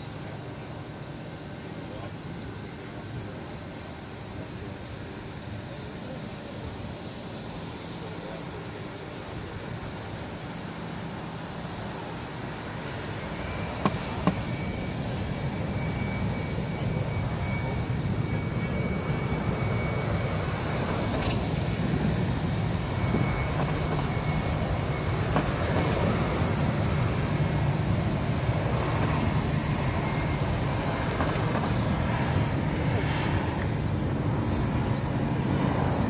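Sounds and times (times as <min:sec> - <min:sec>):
faint high whine: 0:00.0 - 0:36.0
jet engines rumbling: 0:00.0 - 0:36.0.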